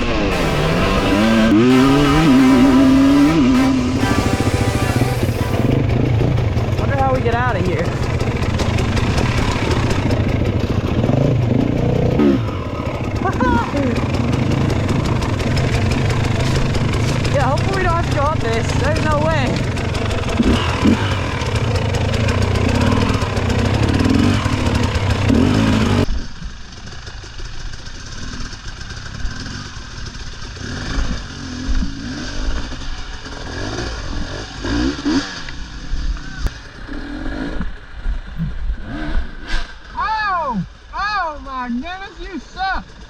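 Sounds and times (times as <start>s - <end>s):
dirt bike engines revving: 0.0s - 26.1s, 28.4s - 43.0s.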